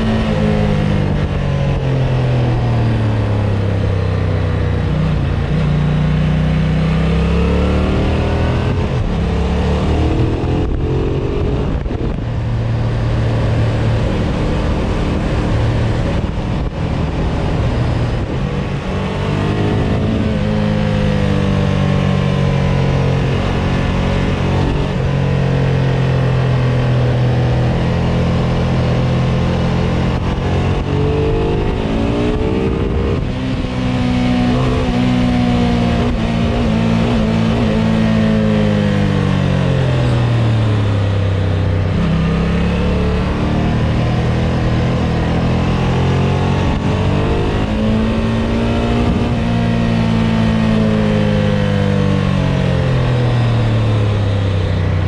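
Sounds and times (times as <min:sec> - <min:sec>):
motorcycle engine accelerating: 0:00.0 - 0:55.0
wind noise on microphone: 0:08.1 - 0:42.3, 0:43.7 - 0:55.0.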